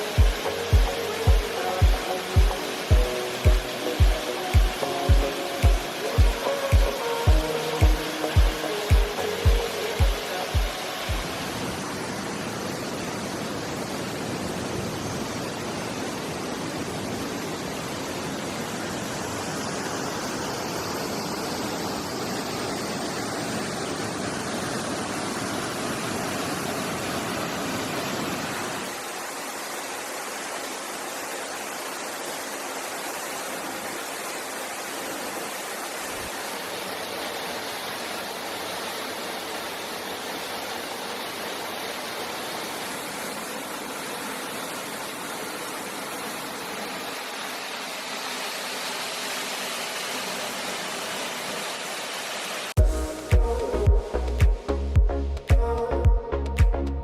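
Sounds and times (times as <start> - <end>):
waterfall roaring: 0.0 - 52.8.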